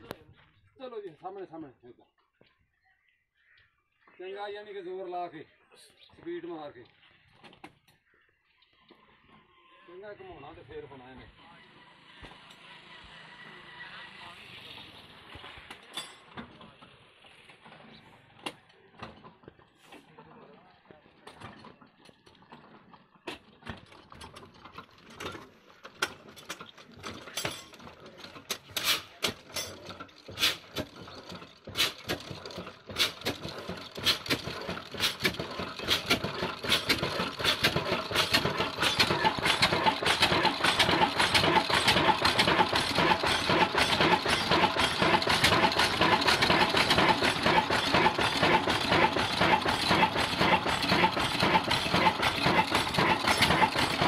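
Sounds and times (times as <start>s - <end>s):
diesel engine starting and running: 10.0s - 54.0s.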